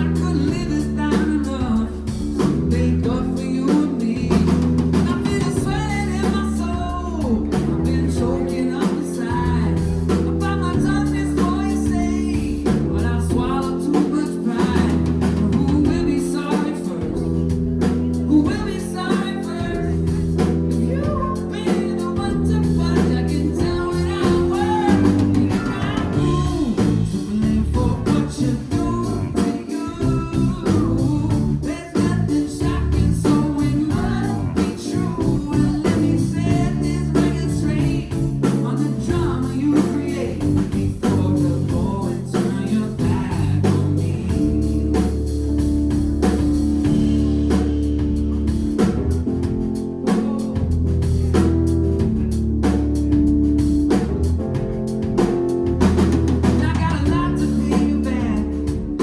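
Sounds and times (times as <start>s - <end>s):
male lead vocal: 0.0s - 47.6s, 49.4s - 51.4s, 56.0s - 59.0s
live pop-rock band playing: 0.0s - 59.0s.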